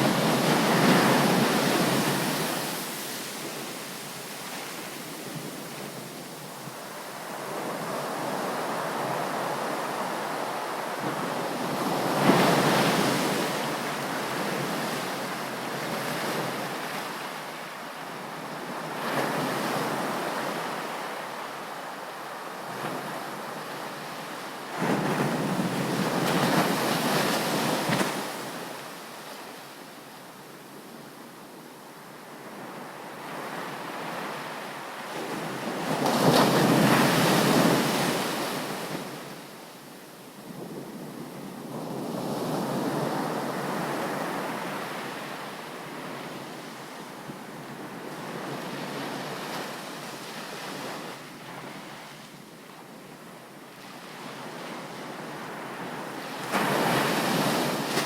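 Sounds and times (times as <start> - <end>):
ocean surf breaking on beach: 0.0 - 30.2, 32.2 - 52.4, 53.0 - 58.0.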